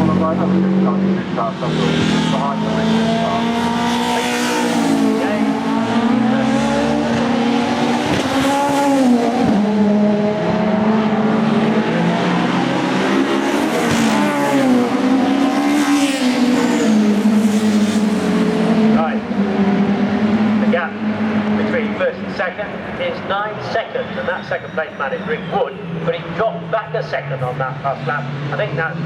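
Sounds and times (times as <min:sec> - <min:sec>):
racing car engines: 0:00.0 - 0:29.0.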